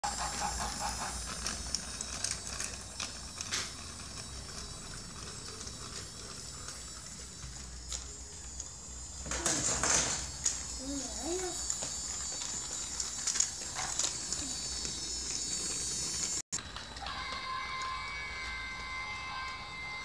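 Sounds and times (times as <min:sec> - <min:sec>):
toy train motor running: 0:00.0 - 0:20.0.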